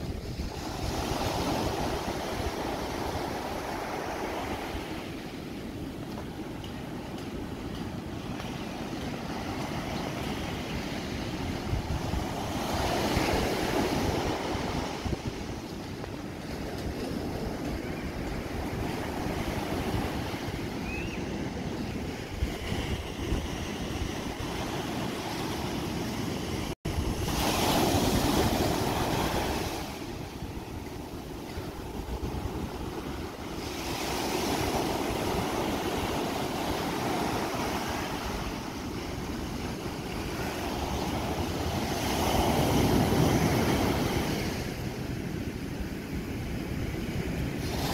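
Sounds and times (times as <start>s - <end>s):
small waves breaking on beach: 0.0s - 47.9s
wind buffeting microphone: 0.0s - 47.9s.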